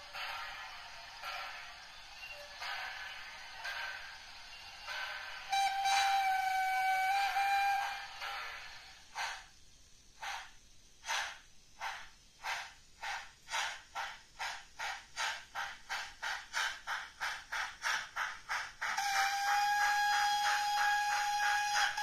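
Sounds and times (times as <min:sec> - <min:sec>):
steam locomotive exhaust chuffs: 0:00.0 - 0:22.0.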